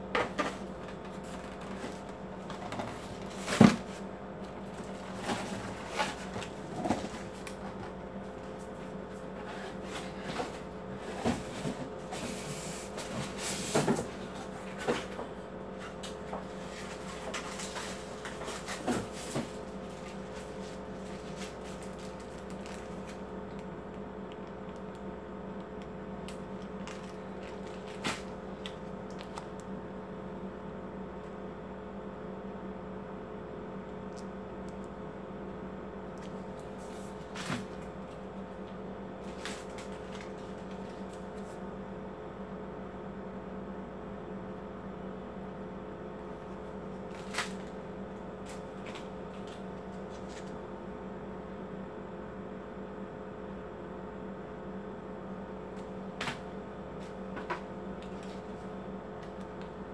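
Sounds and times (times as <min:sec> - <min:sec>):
electrical hum of fan: 0:00.0 - 0:59.9.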